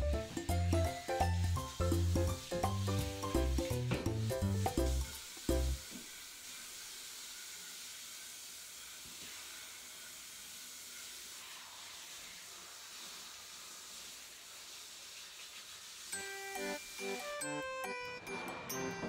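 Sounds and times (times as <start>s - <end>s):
shower head spraying water: 0.0s - 18.9s.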